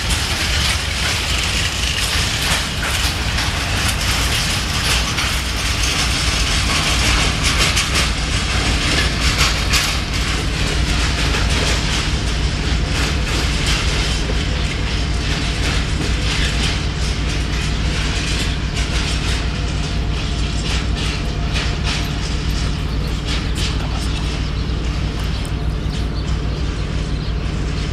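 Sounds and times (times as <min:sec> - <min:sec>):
freight train rumbling past: 0:00.0 - 0:27.9
wheels clattering over rail joints: 0:00.0 - 0:27.9.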